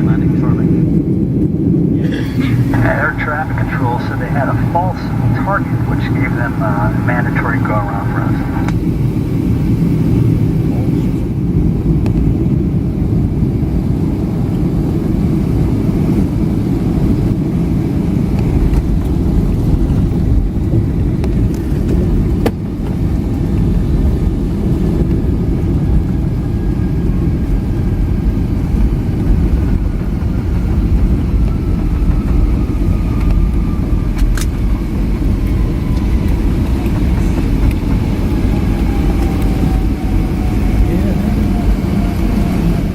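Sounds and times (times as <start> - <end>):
aircraft cabin engine roar: 0.0 - 42.9.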